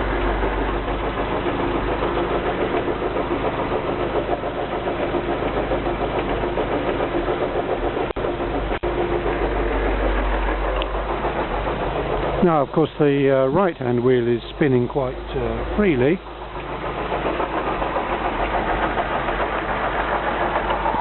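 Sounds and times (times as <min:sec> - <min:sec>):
car engine running: 0:00.0 - 0:21.0
gearbox grinding: 0:00.0 - 0:21.0.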